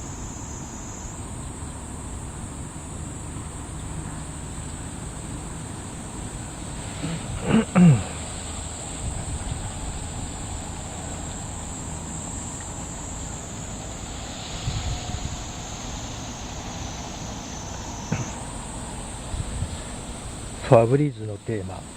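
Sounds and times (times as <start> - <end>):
insects buzzing: 0.0 - 21.9.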